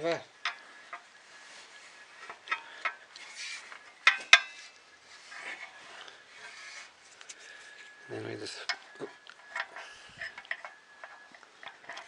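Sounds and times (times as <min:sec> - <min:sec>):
plastic parts rubbing and scraping: 0:00.4 - 0:12.0.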